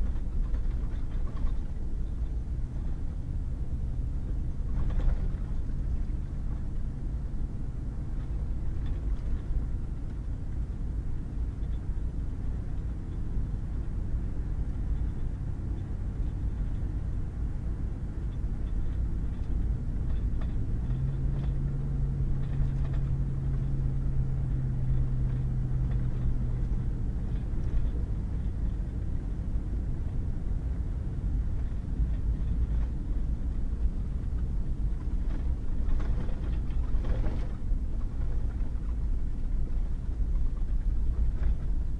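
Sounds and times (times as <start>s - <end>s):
truck driving on gravel: 0.0s - 41.9s.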